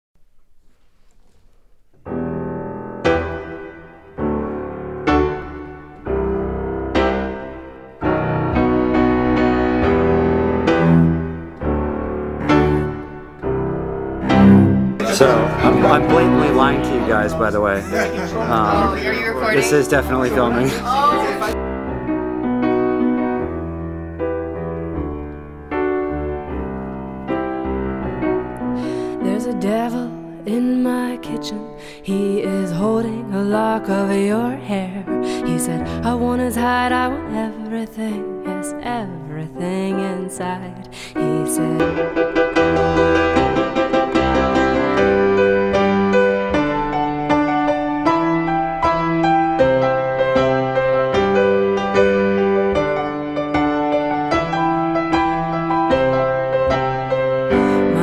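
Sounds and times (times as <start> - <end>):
piano chords: 2.0 - 58.0.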